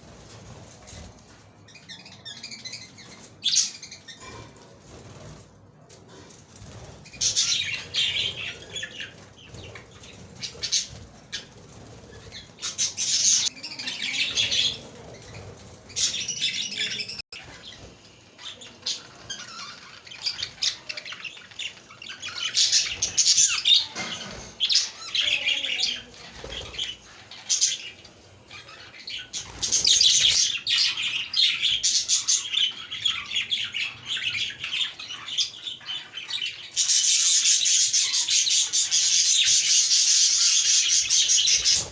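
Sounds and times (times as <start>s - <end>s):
budgerigars chirping and warbling: 0.2s - 5.4s, 6.1s - 41.9s.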